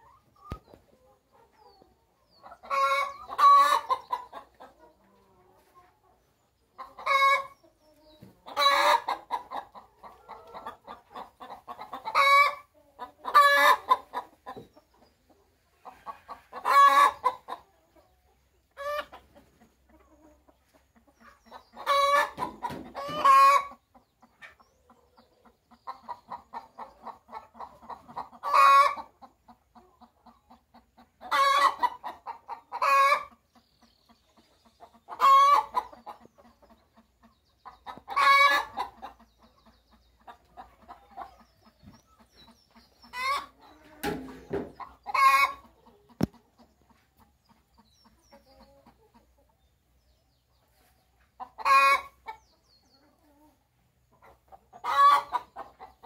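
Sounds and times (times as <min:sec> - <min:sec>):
hens clucking and squawking: 0:00.0 - 0:56.0.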